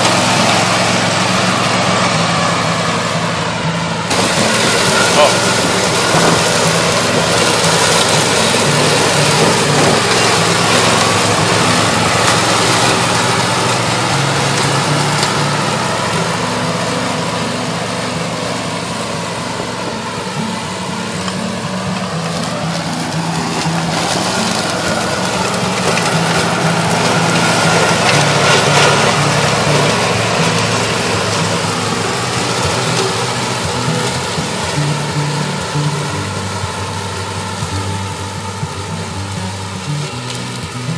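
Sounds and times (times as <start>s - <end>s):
mower deck cutting tall grass: 0.0s - 40.9s
ride-on mower engine running: 0.0s - 40.9s.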